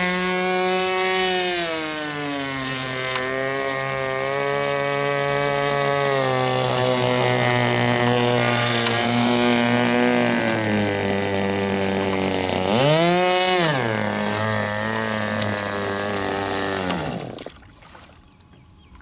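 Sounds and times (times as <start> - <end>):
model engine buzzing: 0.0 - 17.6.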